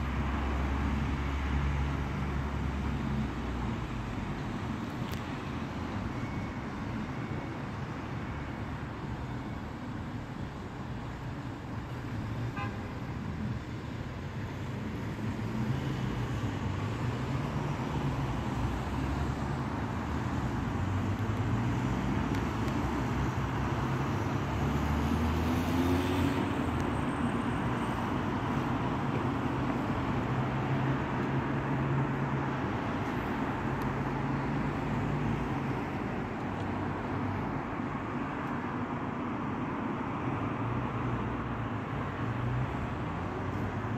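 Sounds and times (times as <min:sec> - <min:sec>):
cars passing: 0:00.0 - 0:43.9.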